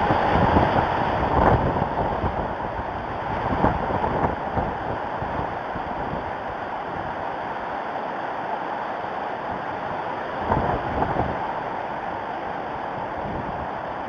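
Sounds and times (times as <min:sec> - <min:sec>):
wind gusting on microphone: 0:00.0 - 0:14.0.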